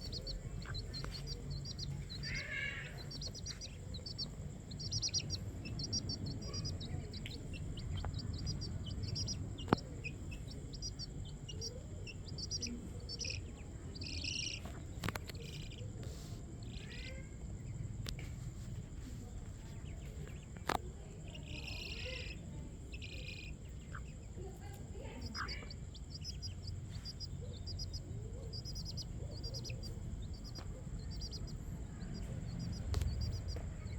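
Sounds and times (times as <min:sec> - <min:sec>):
low outdoor rumble: 0:00.0 - 0:33.9
small birds chirping: 0:00.0 - 0:33.9.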